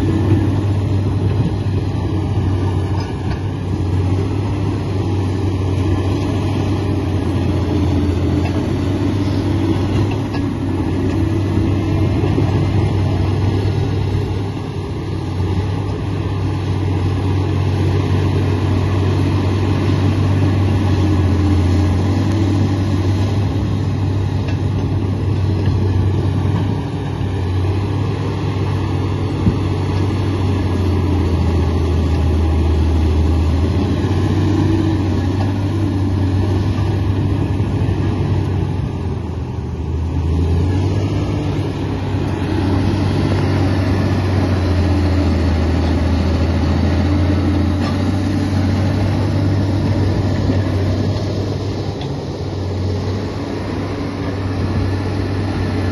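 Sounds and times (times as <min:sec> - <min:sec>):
bulldozer diesel engine drone: 0:00.0 - 0:55.9.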